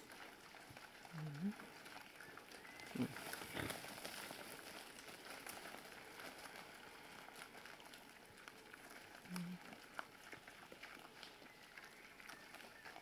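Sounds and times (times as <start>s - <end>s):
wild boar crunching grain on gravel: 0.0s - 13.0s.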